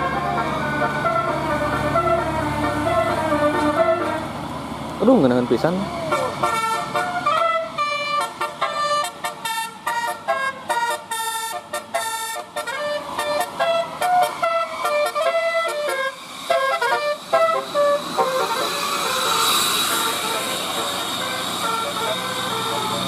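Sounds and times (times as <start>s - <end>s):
melody horn playing a tune: 0.0s - 4.3s, 5.4s - 23.0s.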